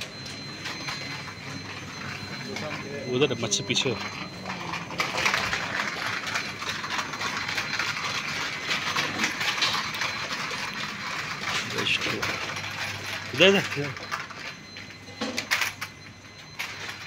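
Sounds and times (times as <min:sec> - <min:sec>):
shopping trolley rattling on tiles: 0:00.6 - 0:14.9.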